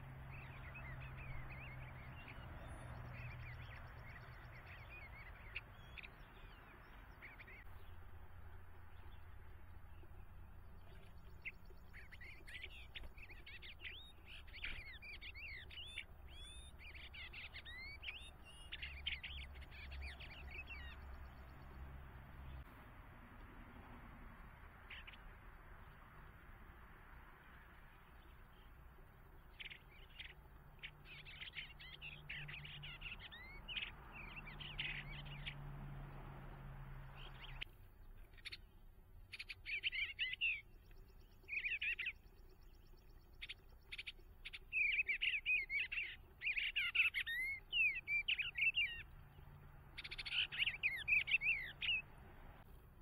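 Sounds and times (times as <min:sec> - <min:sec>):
bluebirds singing: 0:00.0 - 0:22.7, 0:23.4 - 0:53.0.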